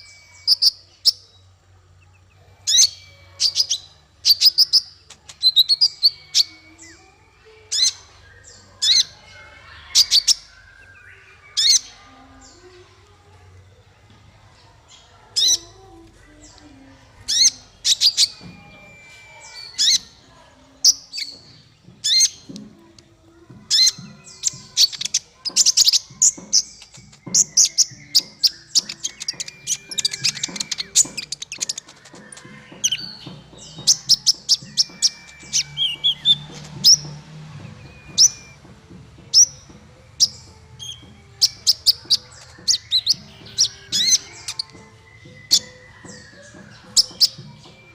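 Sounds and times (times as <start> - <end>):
small songbird singing: 0.0 - 47.9.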